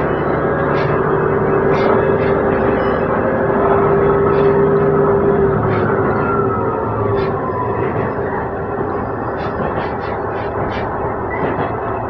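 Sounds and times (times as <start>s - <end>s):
train engine drone with whine: 0.0s - 12.0s
wheel-on-rail rumble: 0.0s - 12.0s.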